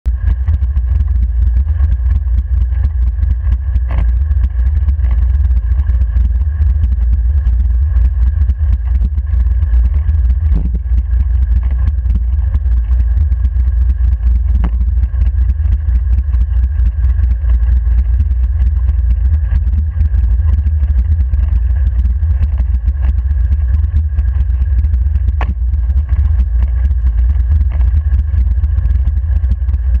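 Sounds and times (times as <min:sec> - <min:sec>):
wind and tyre rumble: 0:00.0 - 0:30.0
faint high hum: 0:00.1 - 0:30.0.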